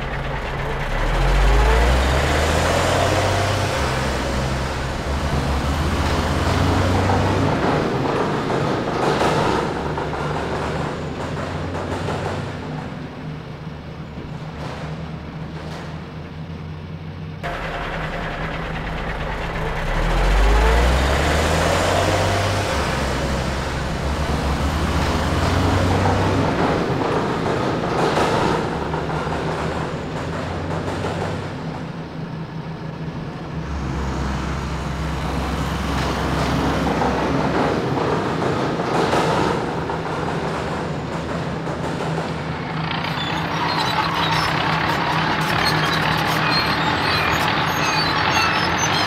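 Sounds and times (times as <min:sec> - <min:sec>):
dump truck engine revving: 0:00.0 - 0:49.0.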